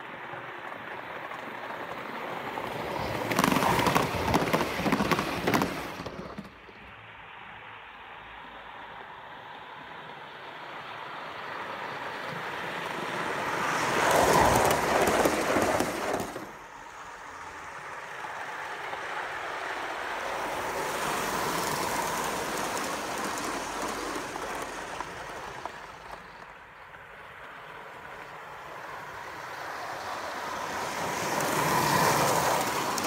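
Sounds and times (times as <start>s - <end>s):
model steam locomotive running: 0.0s - 6.4s, 9.7s - 33.0s.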